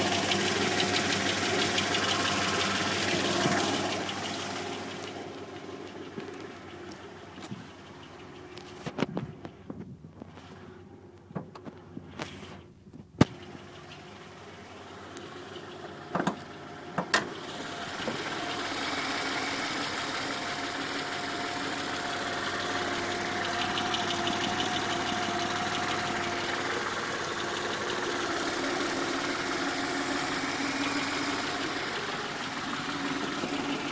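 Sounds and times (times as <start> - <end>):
car engine knocking: 0.0 - 10.2, 13.2 - 33.9.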